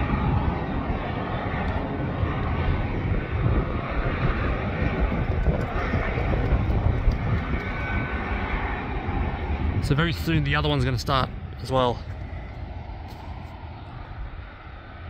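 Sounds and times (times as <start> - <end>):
turboprop engine idling: 0.0 - 15.0.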